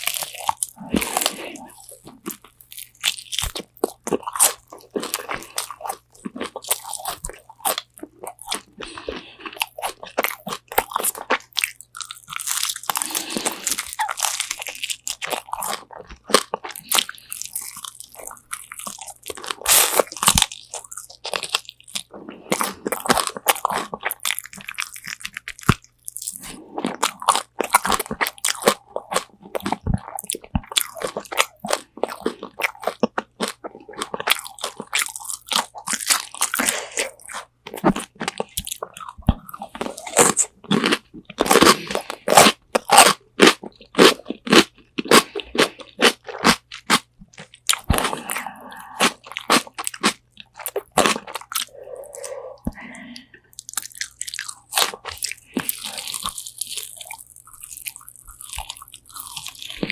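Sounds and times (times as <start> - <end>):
crunching and chewing fried chicken: 0.0 - 59.9.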